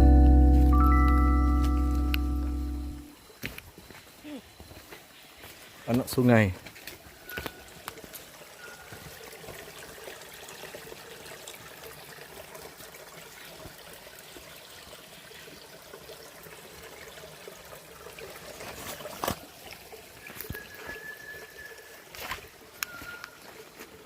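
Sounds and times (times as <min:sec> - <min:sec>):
forest stream trickling: 0:00.0 - 0:24.0.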